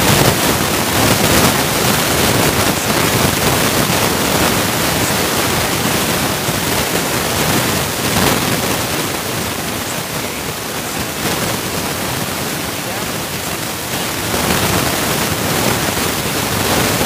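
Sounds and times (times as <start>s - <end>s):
loud steady rushing noise: 0.0s - 17.0s.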